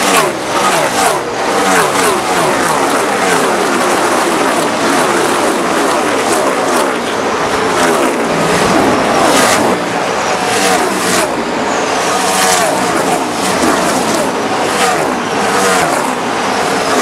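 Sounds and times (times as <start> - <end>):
race cars speeding past: 0.0 - 17.0.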